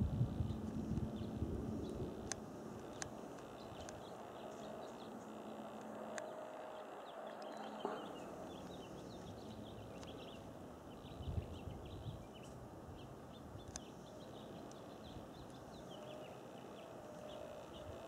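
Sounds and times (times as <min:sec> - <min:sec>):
steady outdoor hiss: 0:00.0 - 0:18.0
birds chirping: 0:00.3 - 0:18.0.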